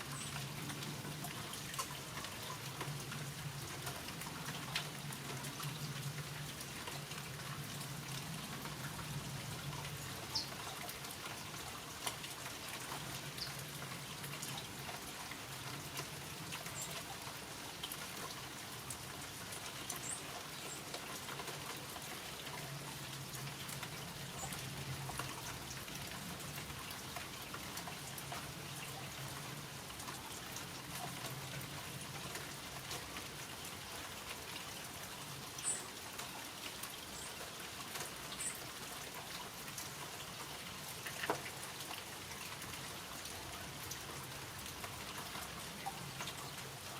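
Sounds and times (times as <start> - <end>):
rain falling: 0.0 - 46.9.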